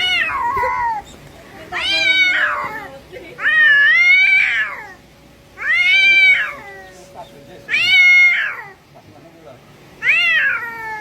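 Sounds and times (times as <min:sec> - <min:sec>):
cat yowling: 0:00.0 - 0:05.0, 0:05.6 - 0:08.9, 0:10.0 - 0:11.0.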